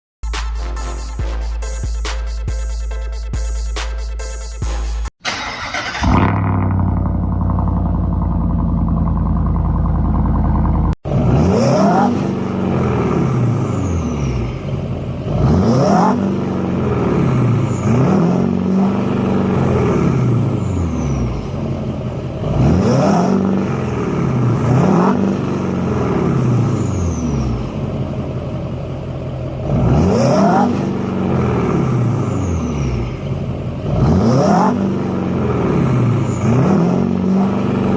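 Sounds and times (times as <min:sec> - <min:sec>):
pickup engine idling and revving: 0:05.3 - 0:37.9.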